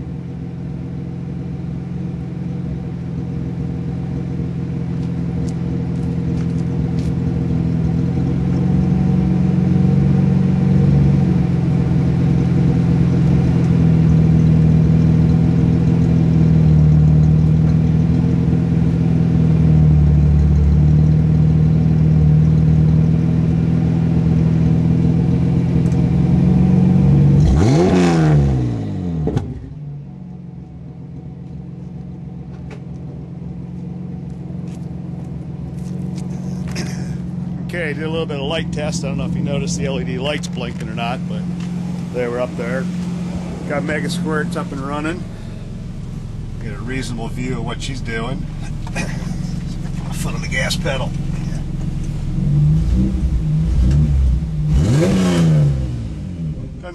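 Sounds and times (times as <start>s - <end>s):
car engine running: 0.0s - 56.9s
engine revving: 4.1s - 29.8s, 35.6s - 56.9s.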